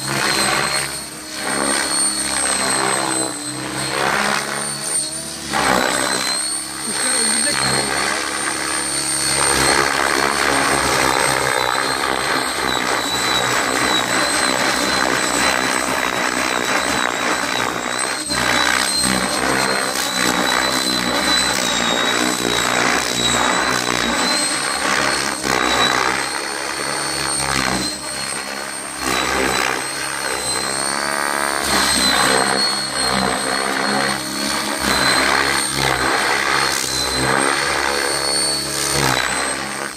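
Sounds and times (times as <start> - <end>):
rc helicopter flying: 0.0 - 39.9.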